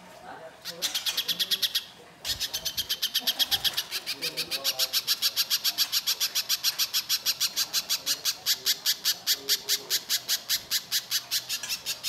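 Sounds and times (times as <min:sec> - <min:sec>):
bird rapid rough chatter: 0:00.6 - 0:12.0.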